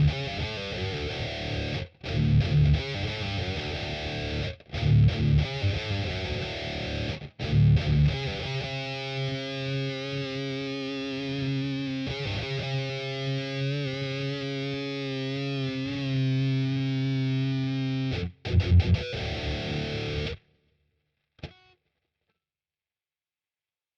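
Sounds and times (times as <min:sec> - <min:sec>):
distorted electric guitar chords: 0:00.0 - 0:20.4.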